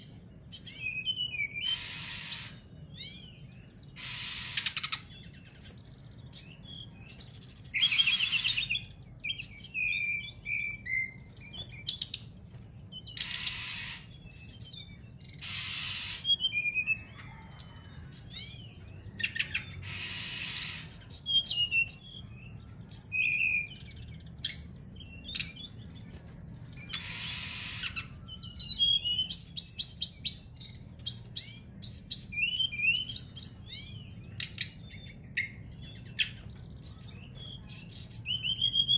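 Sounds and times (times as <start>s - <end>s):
bird singing chirps and trills: 0.0s - 38.9s
harsh raspy bird calls: 0.8s - 9.0s, 9.6s - 26.1s, 26.7s - 38.9s.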